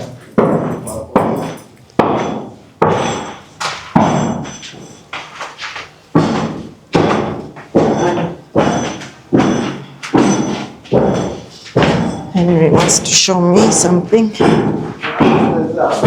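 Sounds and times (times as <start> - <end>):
hammer blows ringing: 0.0 - 5.4, 6.1 - 16.0.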